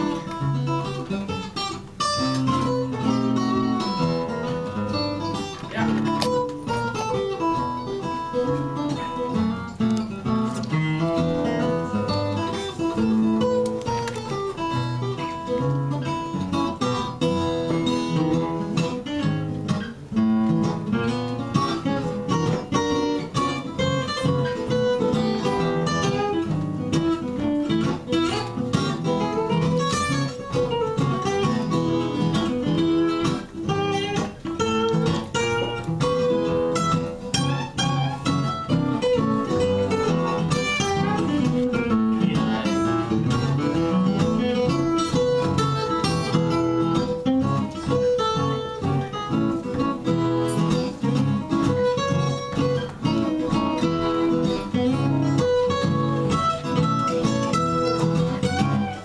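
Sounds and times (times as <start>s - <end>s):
acoustic guitars playing: 0.0s - 59.0s.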